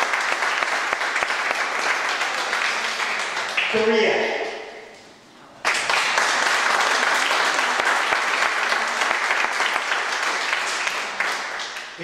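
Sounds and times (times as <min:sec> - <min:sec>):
audience applauding: 0:00.0 - 0:04.0, 0:05.6 - 0:12.0.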